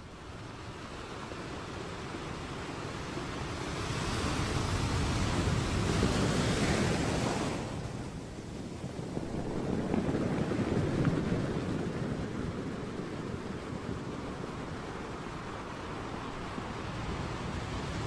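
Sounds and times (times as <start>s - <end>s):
ocean wave rushing in: 2.7s - 18.0s.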